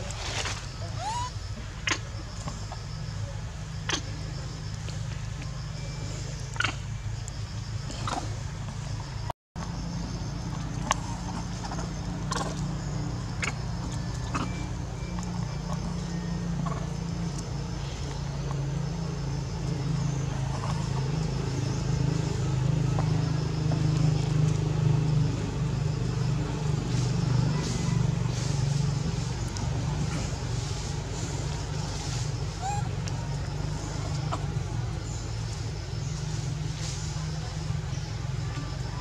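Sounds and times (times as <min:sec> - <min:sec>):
low motor hum: 0:00.0 - 0:39.0.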